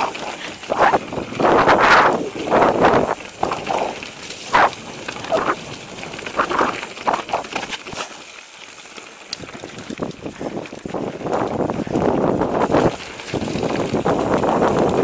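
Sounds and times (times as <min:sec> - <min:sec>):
bike tyres rattling over rough ground: 0:00.0 - 0:15.0.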